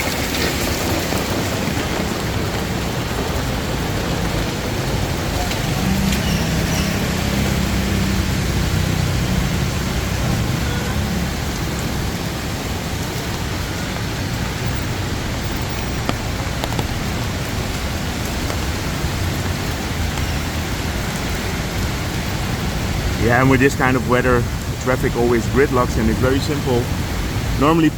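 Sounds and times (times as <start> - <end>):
rain falling on street: 0.0 - 27.9
vehicle engine running low: 0.9 - 27.9.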